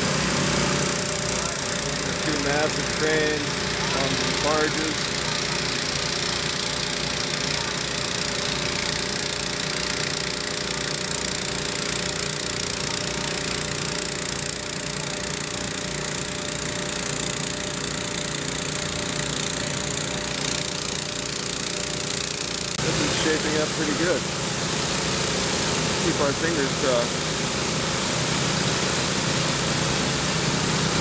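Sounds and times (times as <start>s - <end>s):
heavy machinery engines droning: 0.0s - 31.0s.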